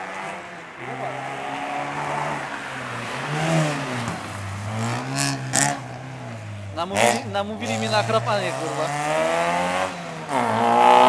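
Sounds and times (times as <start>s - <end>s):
race car engine passing: 0.0s - 11.0s
tyre and road noise: 0.0s - 11.0s.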